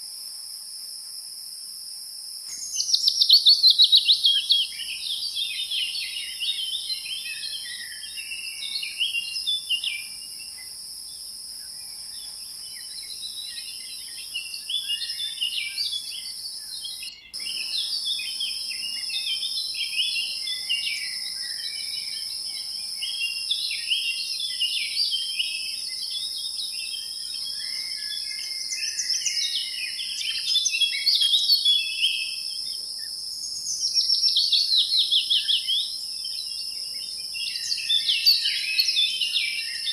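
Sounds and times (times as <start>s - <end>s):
small birds chirping: 2.5s - 39.9s.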